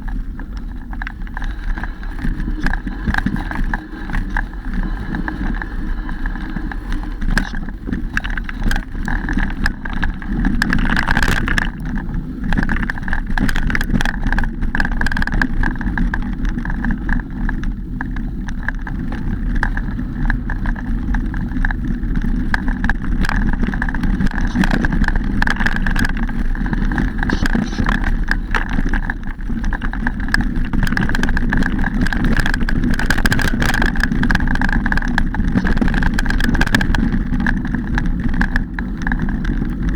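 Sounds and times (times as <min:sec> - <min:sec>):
bike rattling and clicking: 0:00.0 - 0:39.9
bike tyres rumbling on dirt: 0:00.0 - 0:39.9
wind on microphone: 0:00.0 - 0:39.9.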